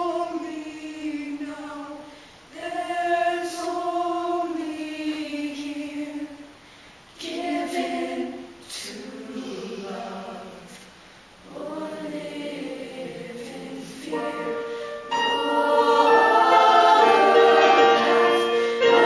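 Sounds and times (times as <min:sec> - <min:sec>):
choir singing slow ballad: 0:00.0 - 0:19.0.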